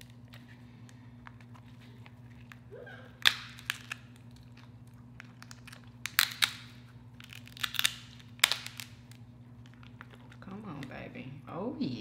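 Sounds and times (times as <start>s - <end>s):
crab shell cracking: 0.0s - 10.4s.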